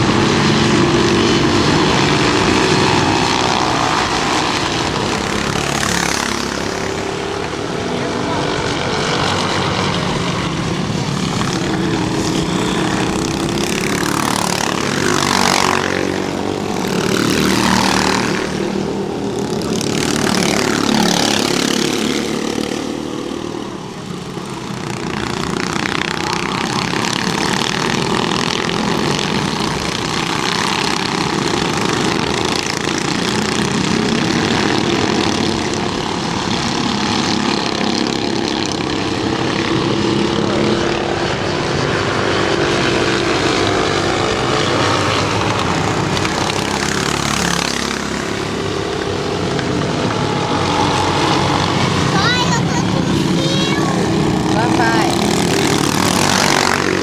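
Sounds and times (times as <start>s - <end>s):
go-kart engines racing: 0.0s - 57.0s.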